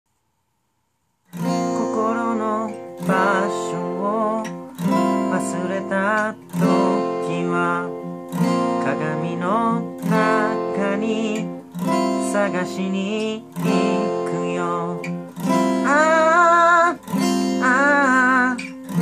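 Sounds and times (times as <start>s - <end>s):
acoustic guitar strumming chords: 1.3s - 19.0s.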